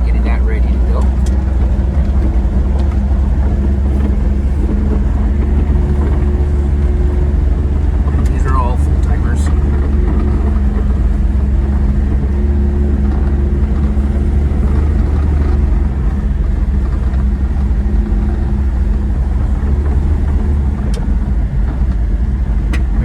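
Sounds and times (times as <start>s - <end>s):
truck engine drone from inside cab: 0.0s - 23.0s.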